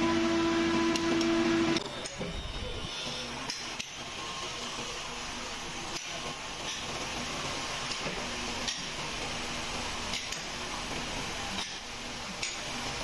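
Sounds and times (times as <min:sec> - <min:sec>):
steady machinery noise: 0:00.0 - 0:13.0.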